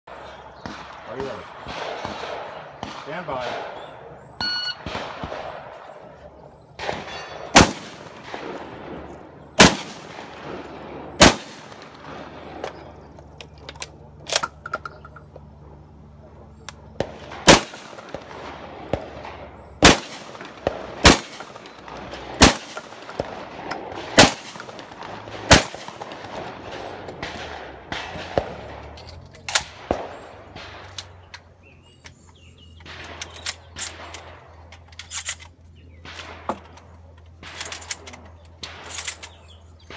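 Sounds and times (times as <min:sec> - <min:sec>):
shotgun shots: 0:00.1 - 0:14.6, 0:15.5 - 0:31.3, 0:32.7 - 0:34.7.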